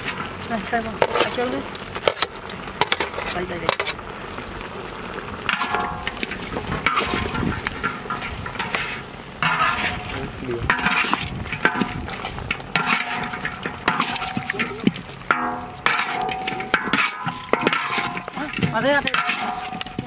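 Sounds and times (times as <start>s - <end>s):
metal spatula scraping wok: 0.0s - 4.0s, 5.5s - 20.0s
food sizzling: 0.0s - 20.0s.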